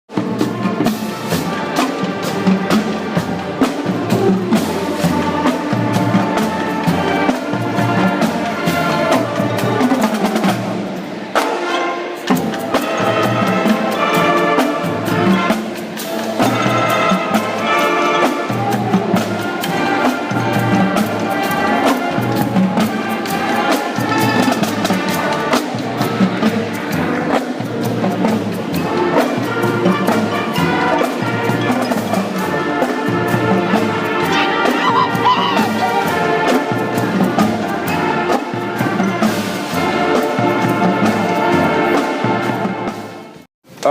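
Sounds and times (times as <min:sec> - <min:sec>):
band with brass and drums: 0:00.0 - 0:43.9.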